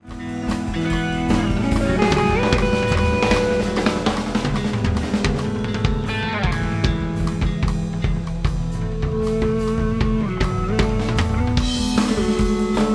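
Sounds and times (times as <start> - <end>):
rock music with drums and guitar: 0.0 - 12.9.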